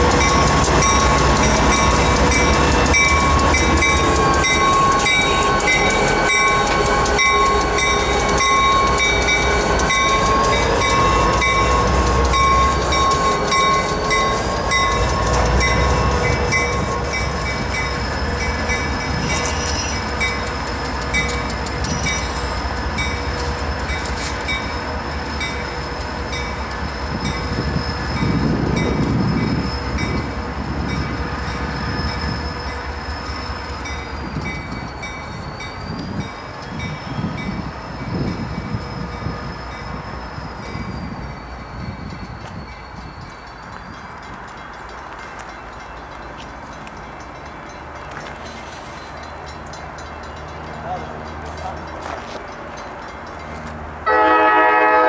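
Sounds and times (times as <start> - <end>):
diesel locomotive engine running: 0.0 - 55.0
locomotive bell ringing: 0.0 - 55.0
train rumble: 0.0 - 55.0.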